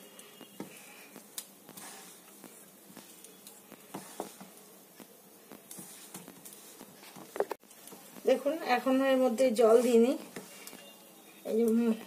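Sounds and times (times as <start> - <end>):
dough squishing in a bowl: 0.0 - 12.0.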